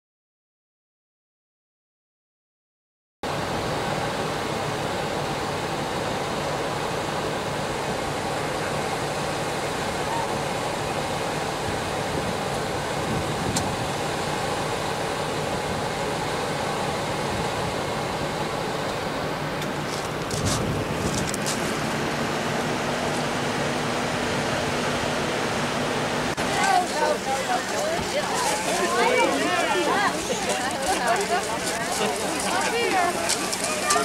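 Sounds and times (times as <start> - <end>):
train rolling along rails: 3.3 - 34.0.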